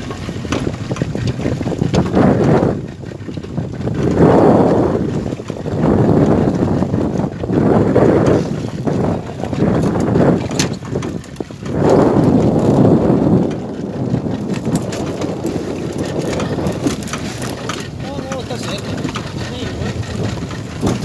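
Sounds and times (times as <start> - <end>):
boat engine: 0.0 - 21.0
wind buffeting microphone: 0.0 - 21.0
water rushing: 4.0 - 21.0.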